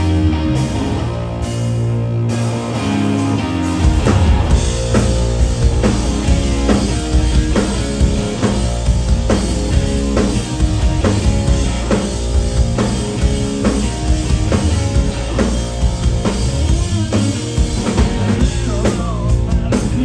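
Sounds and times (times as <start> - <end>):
bass guitar: 0.0 - 20.0
distorted electric guitar: 0.0 - 20.0
drum kit steady beat: 0.7 - 20.0.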